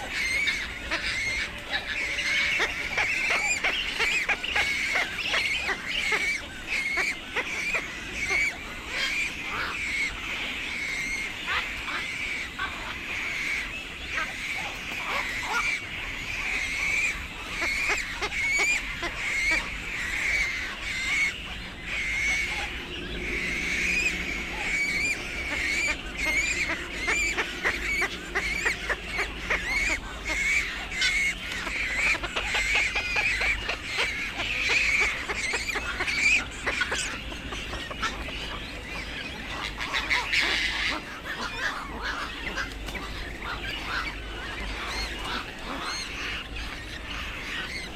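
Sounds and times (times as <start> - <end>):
herons calling: 0.0 - 47.9.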